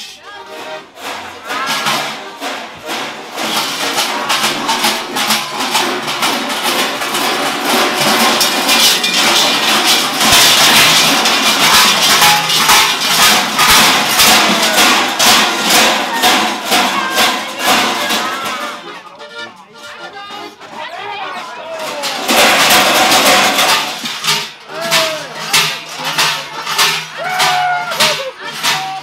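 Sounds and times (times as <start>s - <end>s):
large bells clanging and jangling: 1.0s - 18.9s, 21.8s - 29.0s.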